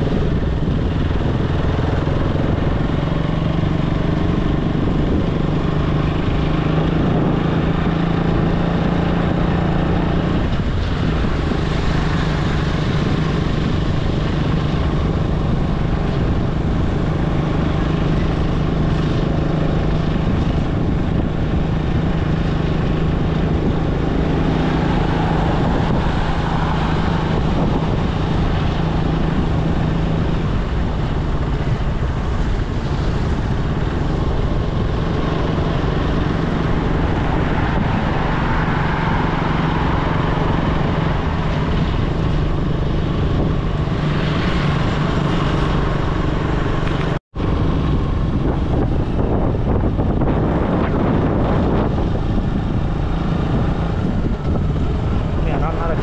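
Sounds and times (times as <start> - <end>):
engine drone: 0.0 - 56.0
rushing noise: 0.0 - 56.0.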